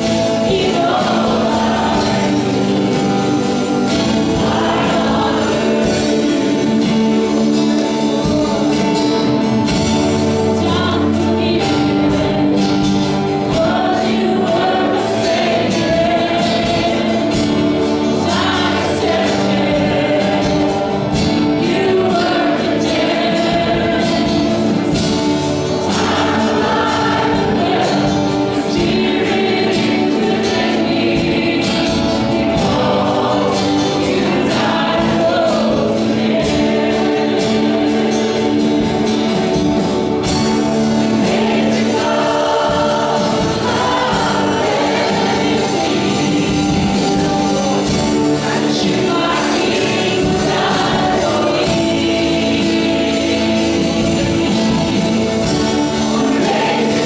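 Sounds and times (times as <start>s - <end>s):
choir singing with band: 0.0s - 57.0s
tambourine-like percussion: 0.0s - 57.0s.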